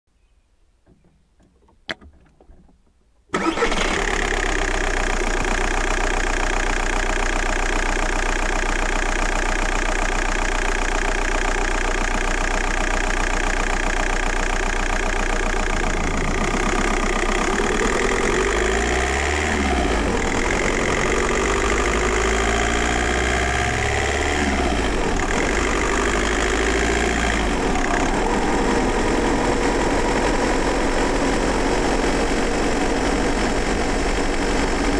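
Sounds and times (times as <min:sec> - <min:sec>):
diesel engine starting and idling: 0:03.3 - 0:34.9.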